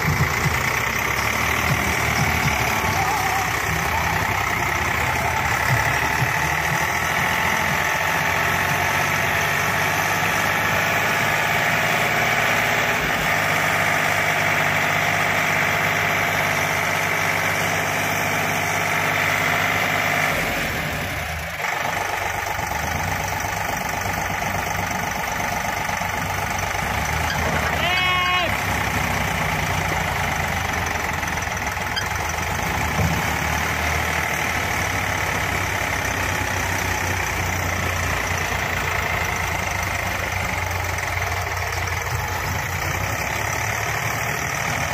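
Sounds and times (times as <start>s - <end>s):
tractor diesel engine straining: 0.0s - 44.9s.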